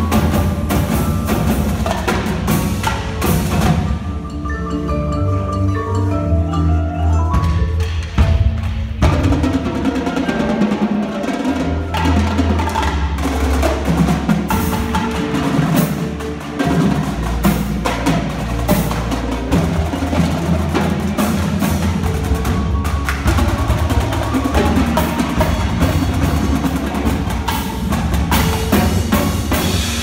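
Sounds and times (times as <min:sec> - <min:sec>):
snare tenor and bass drums: 0:00.0 - 0:04.3, 0:07.3 - 0:30.0
marimbas and vibraphones: 0:00.0 - 0:30.0.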